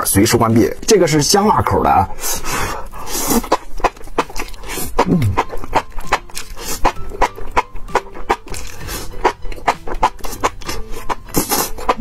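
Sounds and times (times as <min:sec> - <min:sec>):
wet slurping and chewing: 0:02.1 - 0:12.0.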